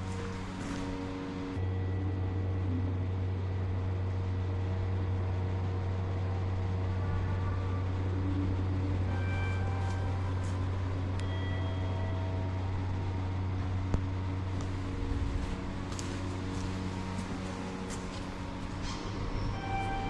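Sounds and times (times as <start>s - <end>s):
vehicle drone: 0.0s - 20.0s.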